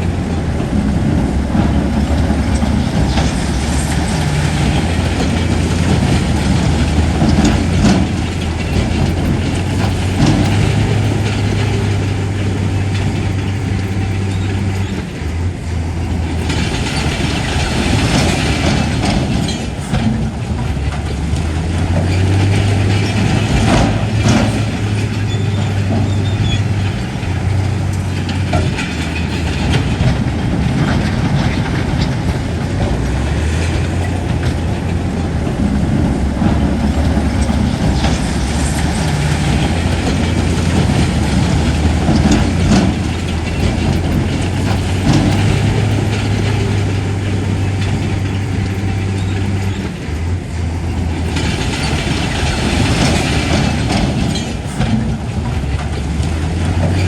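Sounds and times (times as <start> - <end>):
diesel engine running: 0.0 - 57.0
steel tracks clanking: 0.0 - 57.0.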